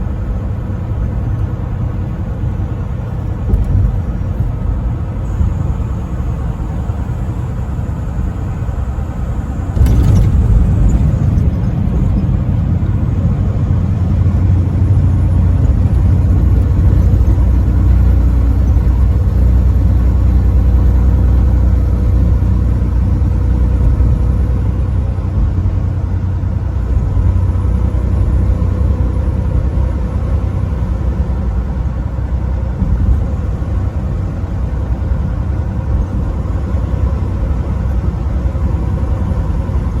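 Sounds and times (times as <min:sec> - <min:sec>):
truck engine and road rumble: 0:00.0 - 0:40.0.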